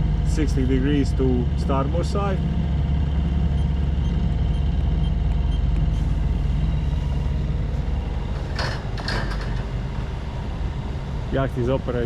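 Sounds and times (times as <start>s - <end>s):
marine diesel engine droning: 0.0s - 12.0s.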